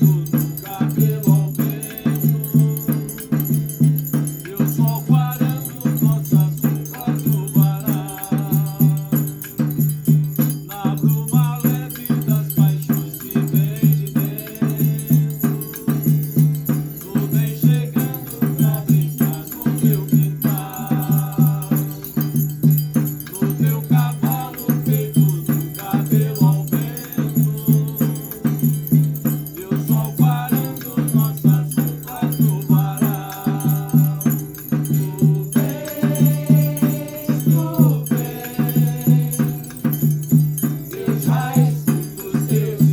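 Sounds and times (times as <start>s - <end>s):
glass instrument music: 0.0s - 42.9s.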